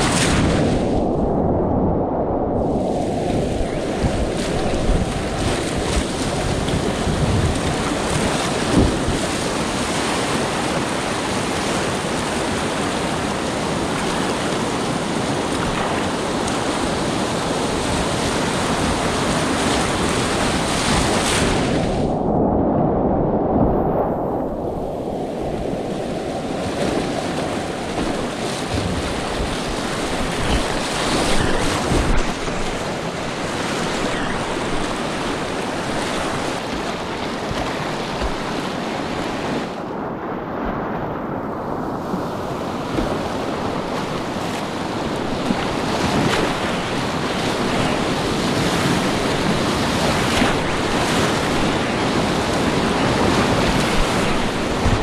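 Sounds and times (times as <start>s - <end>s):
waves breaking over kayak: 0.0s - 55.0s
whitewater rapids rushing: 3.0s - 21.8s, 26.0s - 39.8s, 42.4s - 55.0s.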